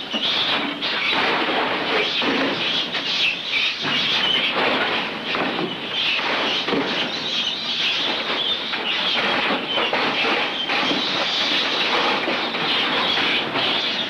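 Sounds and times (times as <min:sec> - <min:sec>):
rough clatter of cages: 0:00.0 - 0:14.0.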